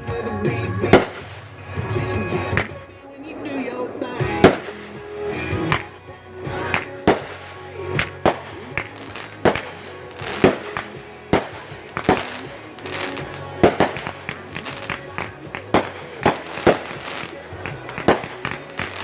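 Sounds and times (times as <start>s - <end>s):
fireworks bangs: 0.0s - 19.0s
music playing: 0.0s - 19.0s.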